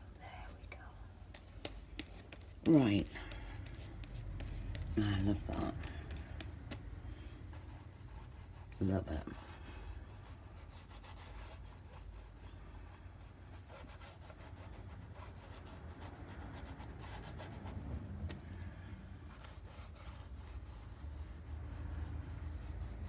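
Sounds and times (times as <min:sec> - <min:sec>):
paintbrush strokes: 0:00.3 - 0:23.0.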